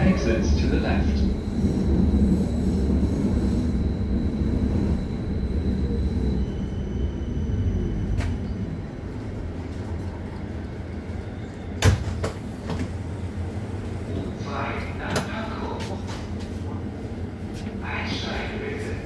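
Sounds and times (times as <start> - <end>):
subway train running rumble: 0.0 - 19.0.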